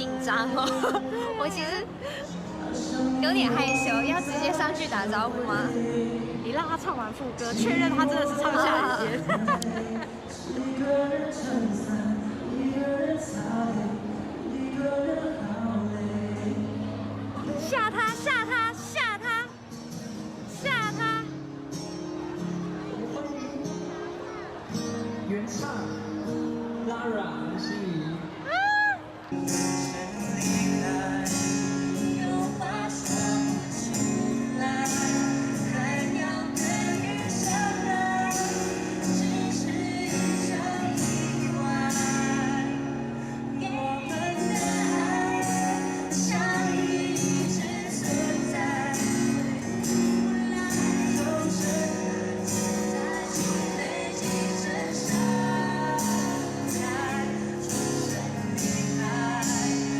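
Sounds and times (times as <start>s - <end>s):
pop song with singing: 0.0s - 19.5s, 25.2s - 59.9s.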